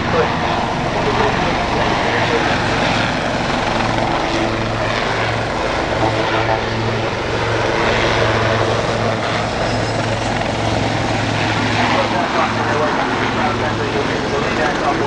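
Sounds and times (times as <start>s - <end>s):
helicopter engine noise: 0.0s - 15.0s
helicopter rotors beating: 0.0s - 15.0s.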